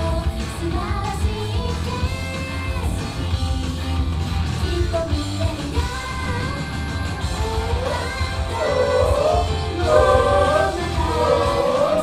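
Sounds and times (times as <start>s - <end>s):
upbeat pop song with female vocal: 0.0s - 12.0s.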